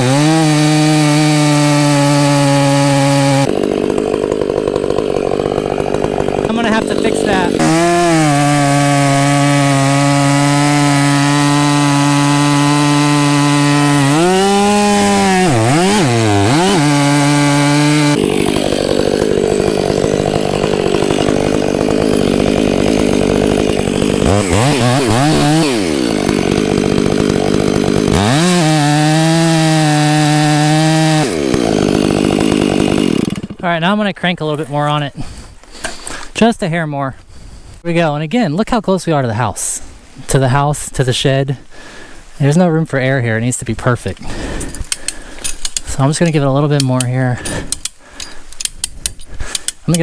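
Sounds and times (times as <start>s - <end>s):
chainsaw cutting through wood: 0.0s - 34.0s, 34.7s - 36.4s, 43.8s - 50.0s.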